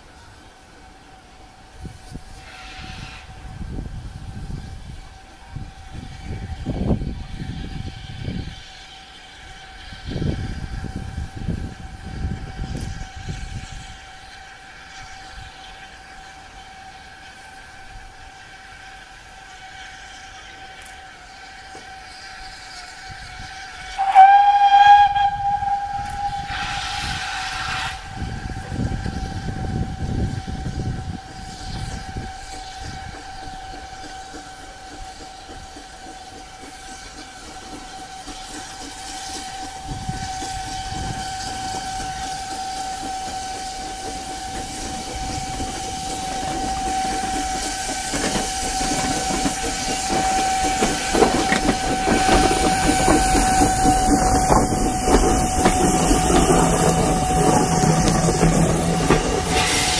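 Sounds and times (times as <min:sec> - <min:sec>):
steam hiss: 0:00.0 - 0:59.9
steam railcar puffing: 0:00.8 - 0:59.9
steam whistle: 0:02.4 - 0:03.7, 0:06.3 - 0:35.2, 0:37.6 - 0:59.9.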